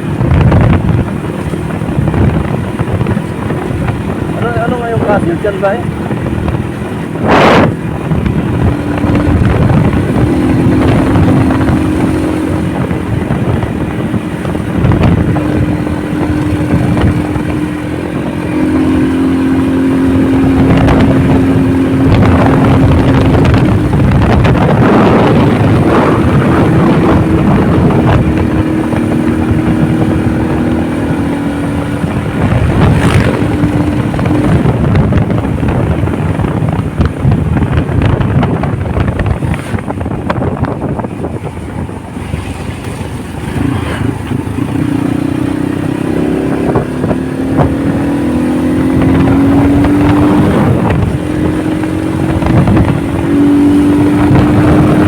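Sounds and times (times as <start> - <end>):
motorcycle engine running: 0.0 - 55.0
wind on microphone: 0.0 - 55.0.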